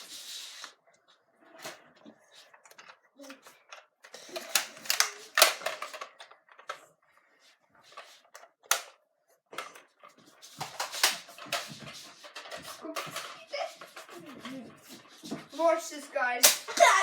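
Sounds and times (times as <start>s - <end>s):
children handling things: 0.0s - 17.0s.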